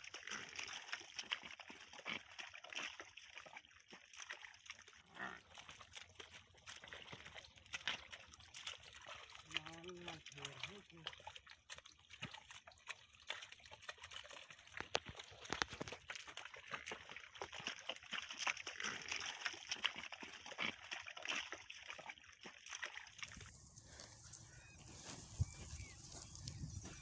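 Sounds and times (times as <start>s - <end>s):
hooves squelching through mud: 0.0s - 27.0s.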